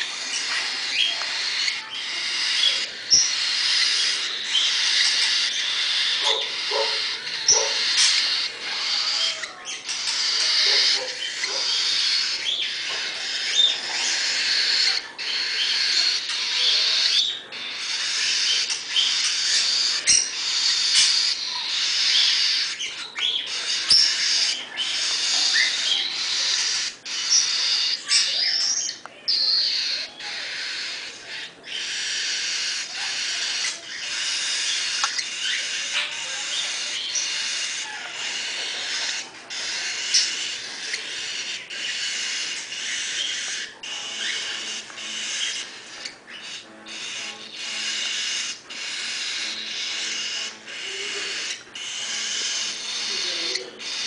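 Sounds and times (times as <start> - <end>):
bird chicks begging calls: 0.0 - 54.0.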